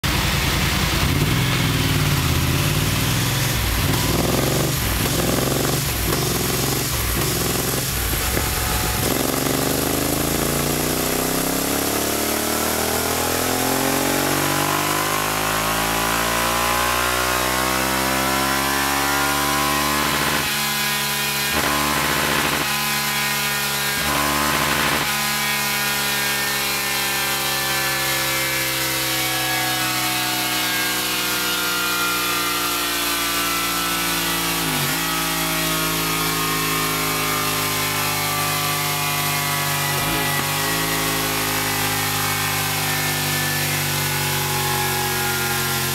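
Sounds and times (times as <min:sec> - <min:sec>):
motorcycle engine revving on dyno: 0:00.0 - 0:45.9.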